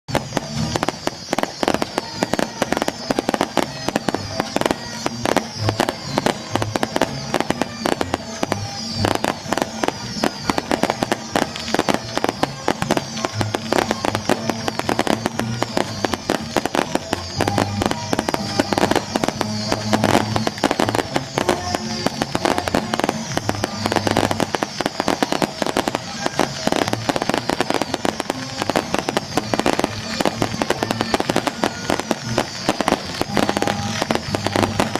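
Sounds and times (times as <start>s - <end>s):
firecrackers crackling: 0.1s - 34.9s
music playing: 0.1s - 34.9s.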